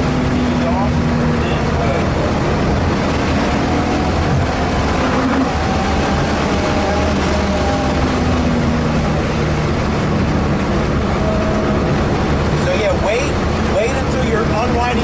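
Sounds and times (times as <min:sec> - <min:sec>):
car engine under load: 0:00.0 - 0:15.0.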